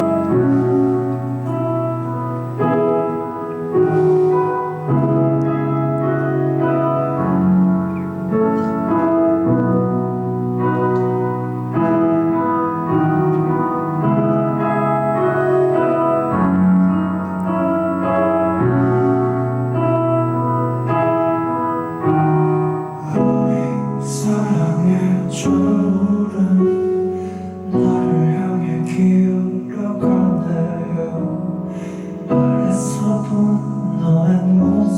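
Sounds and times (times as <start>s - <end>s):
slow piano chords: 0.0s - 34.9s.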